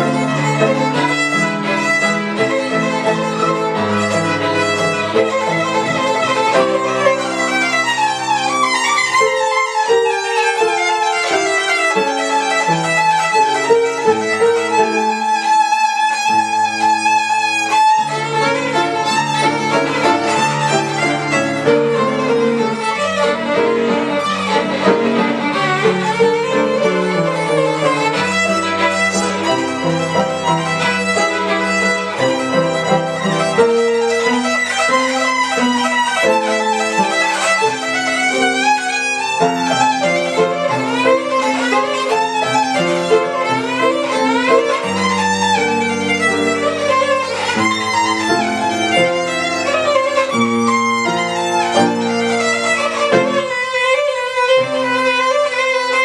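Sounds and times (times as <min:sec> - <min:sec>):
piano accompaniment: 0:00.0 - 0:56.0
violin melody: 0:00.0 - 0:56.0.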